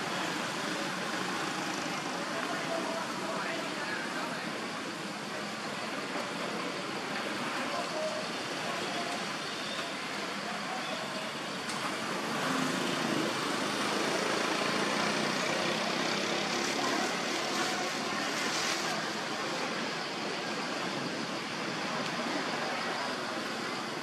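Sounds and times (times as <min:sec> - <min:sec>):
steady outdoor roar: 0:00.0 - 0:24.0.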